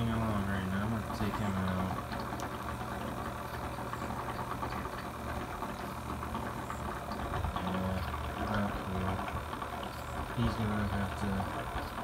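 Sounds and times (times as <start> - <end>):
aquarium pump humming: 0.0 - 12.0.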